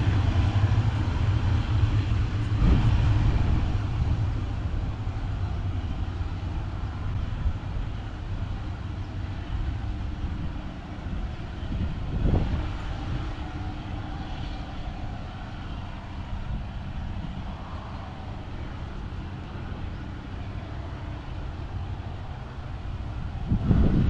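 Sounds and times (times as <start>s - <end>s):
locomotive engine hum: 0.0s - 24.0s.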